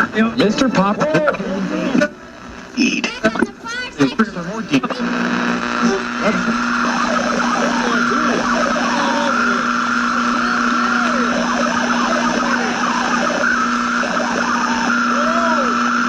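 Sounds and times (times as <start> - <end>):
high whine: 0.0 - 16.0
radio static hiss: 0.0 - 16.0
low hum: 1.6 - 16.0.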